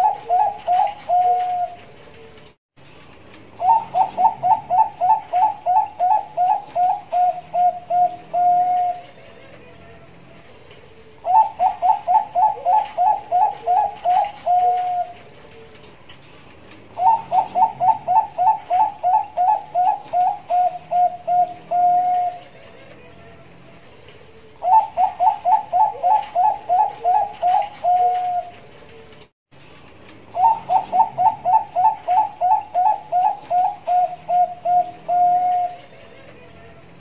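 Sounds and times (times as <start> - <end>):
dove cooing: 0.0 - 2.4, 3.6 - 15.9, 16.8 - 29.2, 30.2 - 37.0.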